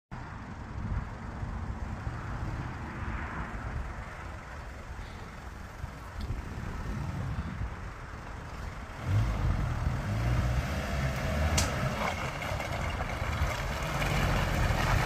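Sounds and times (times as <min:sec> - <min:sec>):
off-roader engine low rumble: 0:00.1 - 0:15.0.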